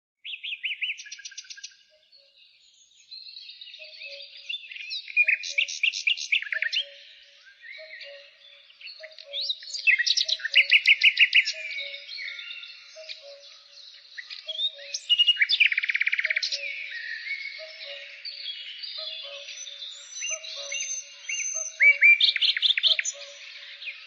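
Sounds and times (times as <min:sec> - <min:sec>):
wild birds singing: 0:00.2 - 0:24.0.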